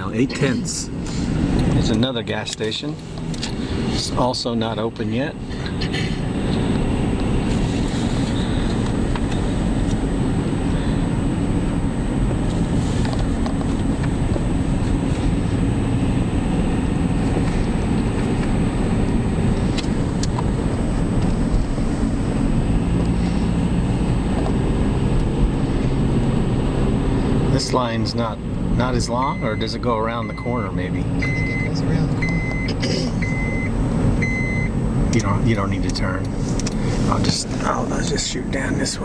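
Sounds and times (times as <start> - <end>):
car engine and tyre rumble: 0.0 - 39.0.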